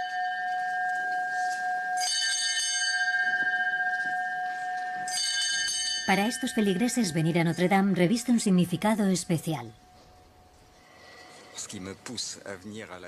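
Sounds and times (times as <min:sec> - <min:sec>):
small bell ringing: 0:00.0 - 0:10.6.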